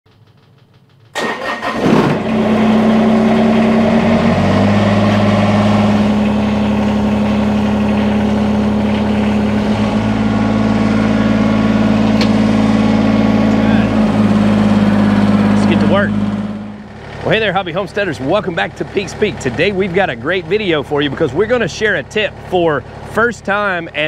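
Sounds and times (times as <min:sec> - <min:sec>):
diesel engine starter cranking: 0:00.1 - 0:23.3
tractor engine idling: 0:00.1 - 0:24.0.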